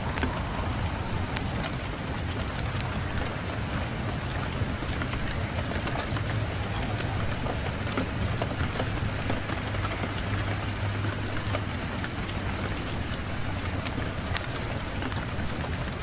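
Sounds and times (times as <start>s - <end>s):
fire crackling and popping: 0.0s - 16.0s
low rumble of wind: 0.0s - 16.0s.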